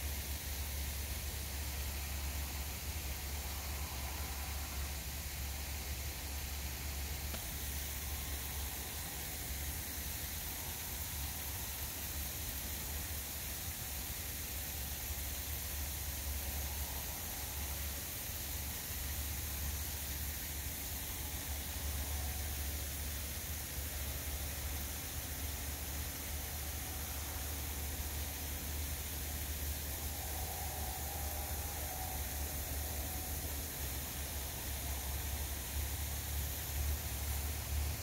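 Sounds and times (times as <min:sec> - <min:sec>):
even hiss: 0:00.0 - 0:38.0.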